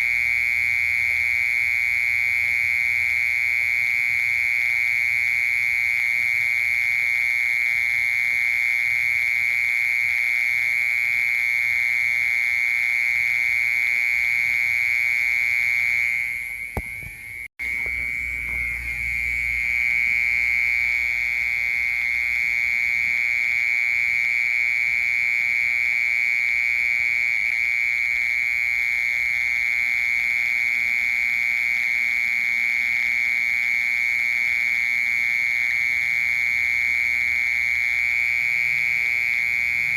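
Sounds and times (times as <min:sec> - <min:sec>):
mole cricket trilling: 0:00.0 - 0:39.9.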